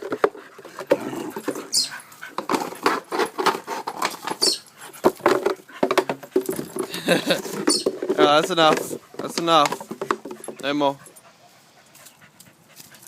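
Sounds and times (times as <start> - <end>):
dogs scuffling and clicking: 0.0 - 11.2.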